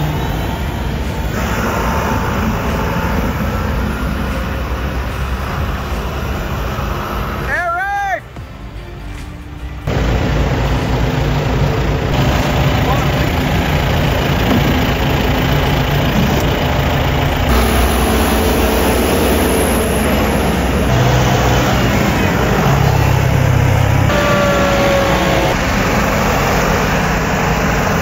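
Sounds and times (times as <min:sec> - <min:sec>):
tractor driving past: 0:00.0 - 0:07.5, 0:09.0 - 0:28.0
diesel tractor engines running: 0:00.0 - 0:28.0.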